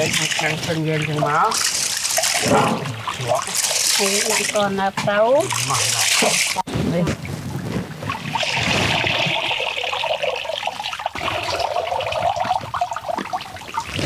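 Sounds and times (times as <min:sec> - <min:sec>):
water trickling into metal basin: 0:00.0 - 0:06.7, 0:08.1 - 0:14.0.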